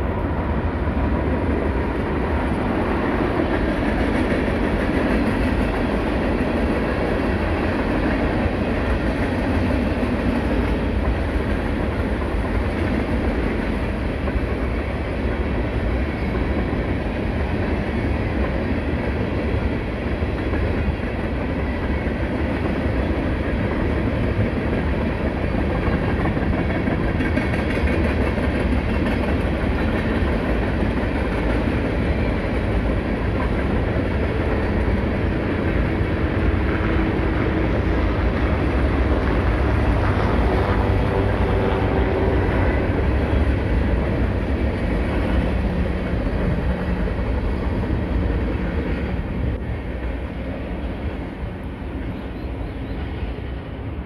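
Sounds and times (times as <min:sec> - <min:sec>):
freight train rolling past: 0:00.0 - 0:54.0
wheels rumbling on track: 0:00.0 - 0:54.0.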